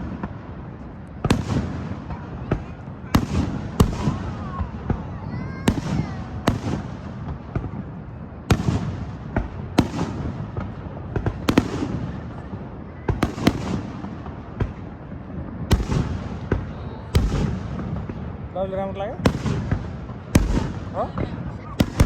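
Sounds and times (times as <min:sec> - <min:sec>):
firework pops and crackling: 0:00.0 - 0:07.9, 0:08.5 - 0:14.9, 0:15.6 - 0:18.2, 0:19.1 - 0:22.0
firework bangs: 0:00.0 - 0:22.0.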